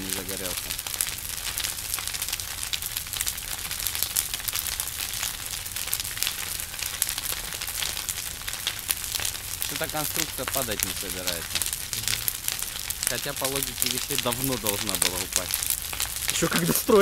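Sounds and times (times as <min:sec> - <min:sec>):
bonfire crackling and popping: 0:00.0 - 0:17.0
fire low rumble: 0:00.0 - 0:17.0.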